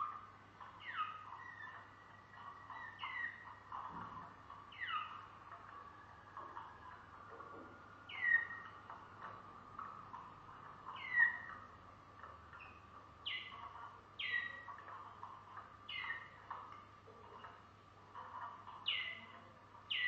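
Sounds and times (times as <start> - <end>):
canary warbling song: 0.0 - 20.0.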